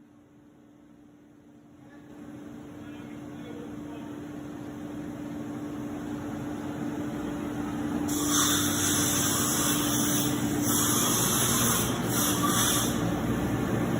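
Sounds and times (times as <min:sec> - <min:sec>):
machining center humming: 0:00.8 - 0:13.9.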